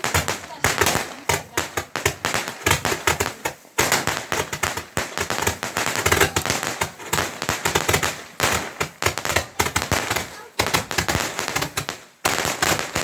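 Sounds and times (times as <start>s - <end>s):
firework cracks and bangs: 0.0s - 13.0s.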